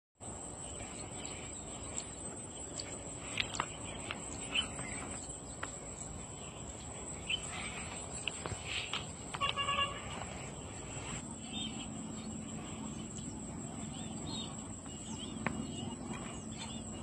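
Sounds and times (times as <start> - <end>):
high-pitched insect trill: 0.2 - 17.0.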